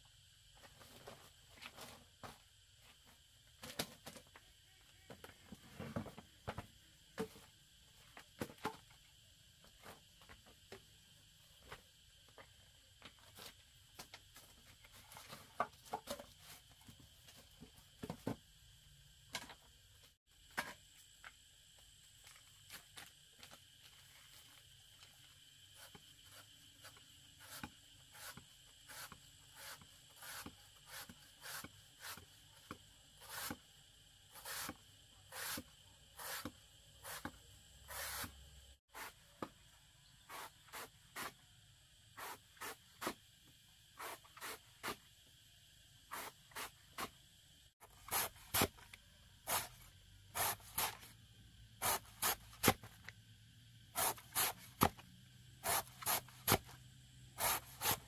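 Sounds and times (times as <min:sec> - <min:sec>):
faint insect hum: 0:00.0 - 0:58.0.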